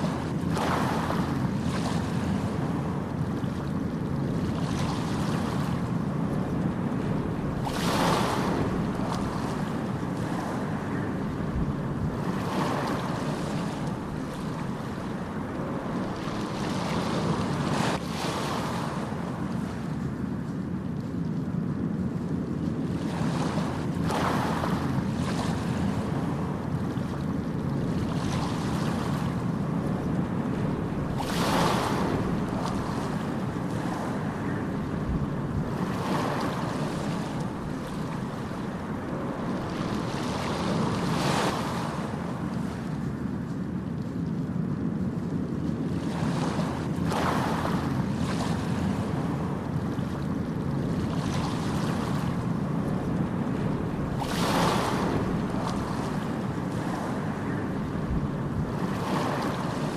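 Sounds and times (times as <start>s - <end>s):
ocean waves washing: 0.0s - 59.9s.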